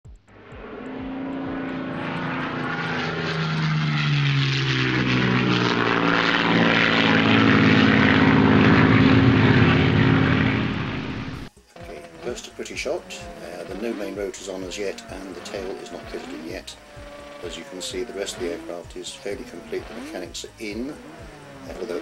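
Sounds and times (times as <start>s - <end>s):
aircraft engine approaching: 0.2s - 22.0s.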